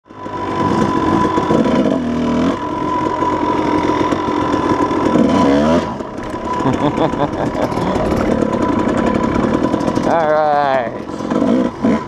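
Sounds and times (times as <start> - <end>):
dirt bike engine running: 0.0 - 12.0
high whine: 0.2 - 12.0.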